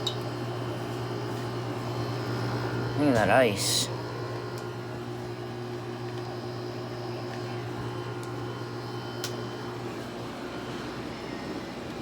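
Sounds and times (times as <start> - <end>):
window air conditioner humming: 0.0 - 12.0.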